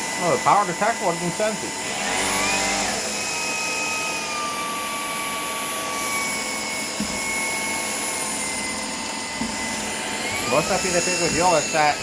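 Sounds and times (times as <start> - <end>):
cordless vacuum motor whine: 0.0 - 12.0.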